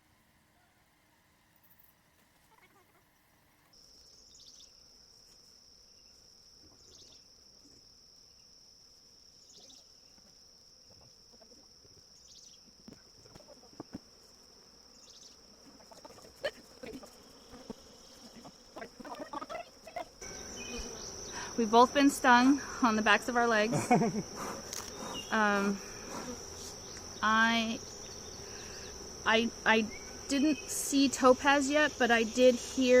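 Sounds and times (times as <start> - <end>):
insect high-pitched trill: 3.8 - 33.0.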